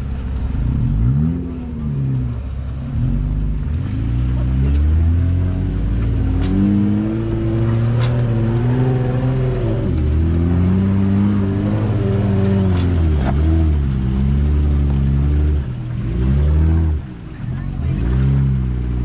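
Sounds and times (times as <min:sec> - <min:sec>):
engine revving under load: 0:00.0 - 0:19.0.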